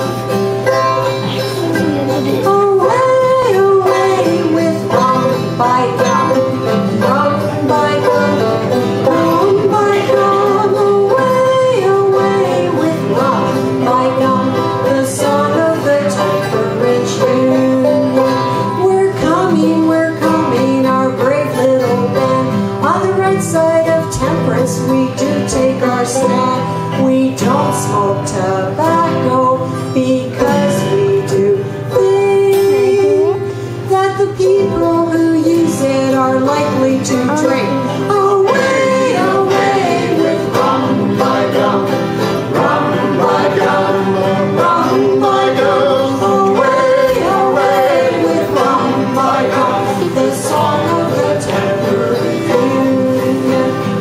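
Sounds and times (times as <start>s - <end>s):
banjo: 0.0s - 54.0s
strummed acoustic guitar: 0.0s - 54.0s
people singing: 1.2s - 54.0s.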